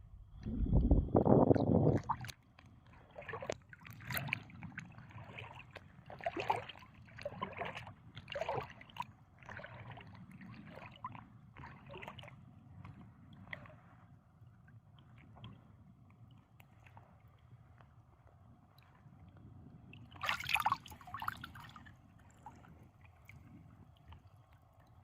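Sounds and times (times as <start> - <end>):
small waves lapping: 1.5 - 14.2, 14.8 - 25.0.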